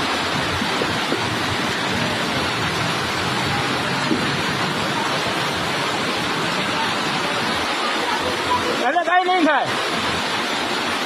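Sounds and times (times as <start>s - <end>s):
heavy rain: 0.0s - 11.0s
rushing floodwater: 0.0s - 11.0s.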